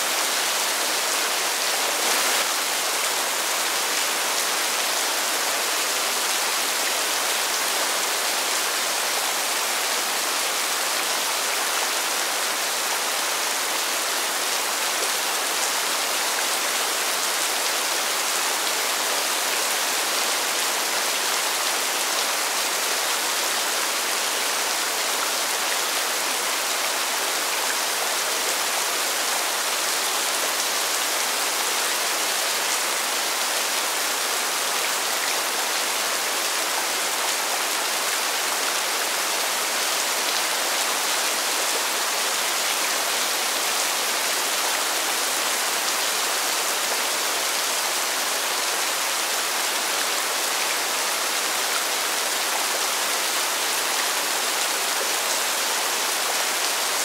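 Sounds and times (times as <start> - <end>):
rain falling on pavement: 0.0 - 57.0.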